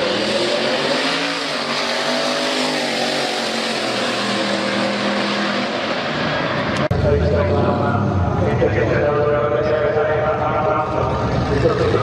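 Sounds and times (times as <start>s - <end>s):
truck engine accelerating hard: 0.0s - 12.0s.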